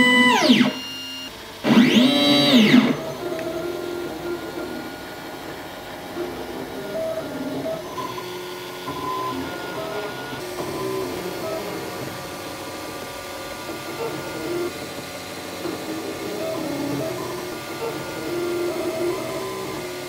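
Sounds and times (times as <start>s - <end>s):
printer stepper motors whining: 0.0s - 20.0s.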